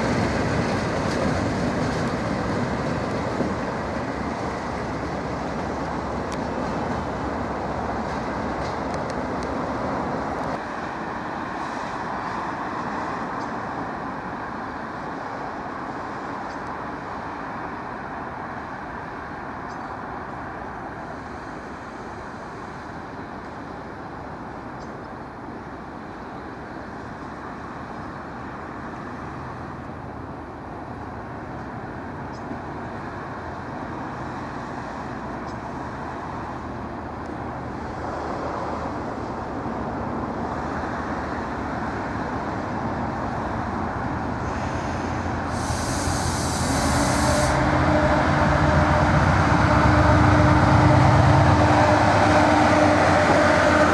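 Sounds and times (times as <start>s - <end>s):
diesel locomotive engine: 0.0s - 53.9s.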